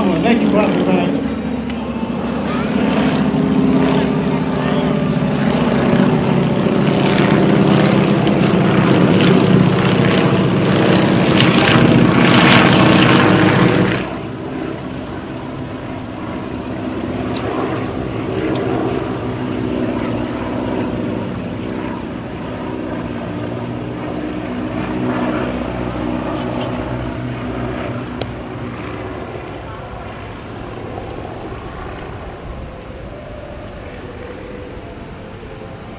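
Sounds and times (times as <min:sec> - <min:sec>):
propeller planes droning overhead: 0:00.0 - 0:35.9.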